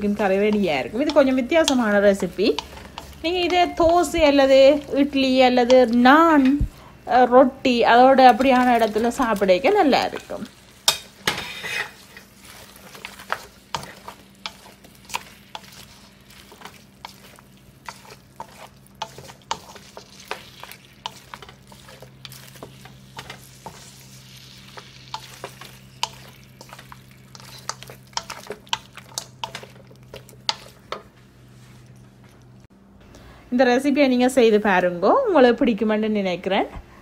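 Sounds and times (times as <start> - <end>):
soft frying sizzle: 0.0 - 6.8, 7.4 - 32.7.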